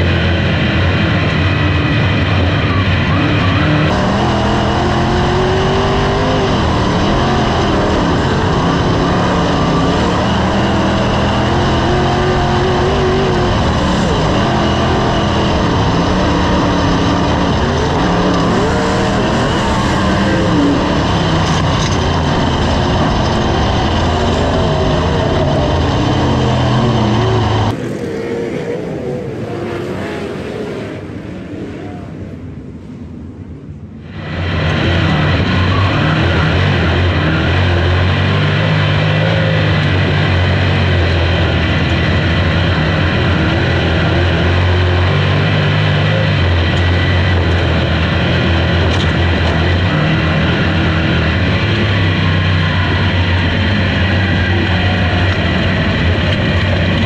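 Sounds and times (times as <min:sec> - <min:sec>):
race car engine revving: 0:00.0 - 0:32.7, 0:34.0 - 0:57.0
distant race cars on track: 0:00.0 - 0:57.0.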